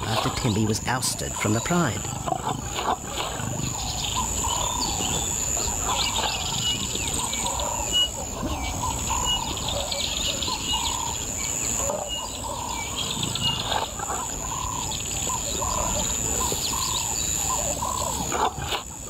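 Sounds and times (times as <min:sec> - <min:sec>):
birds piping: 0:00.0 - 0:19.0
birds warbling: 0:00.0 - 0:19.0
high-pitched insect drone: 0:00.0 - 0:19.0.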